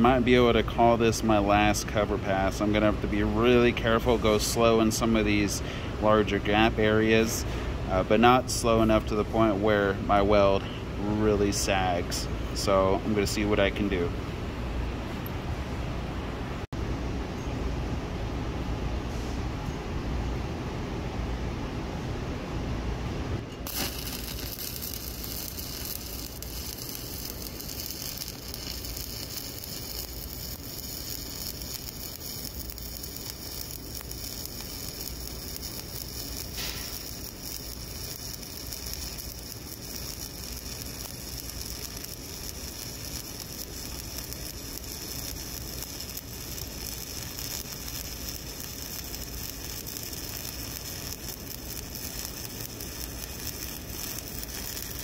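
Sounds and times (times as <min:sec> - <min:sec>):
welding arc hiss and crackle: 0:00.0 - 0:14.1, 0:23.6 - 0:55.0.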